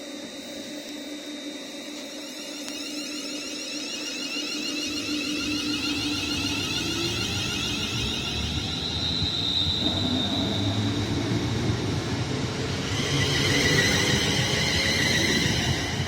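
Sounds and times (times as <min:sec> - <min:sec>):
high ringing whine: 0:00.0 - 0:16.0.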